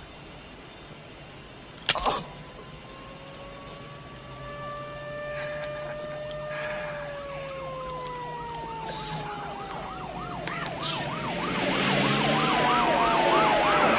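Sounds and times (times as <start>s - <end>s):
fast-warbling siren: 1.6s - 13.9s
siren wailing: 1.8s - 13.9s.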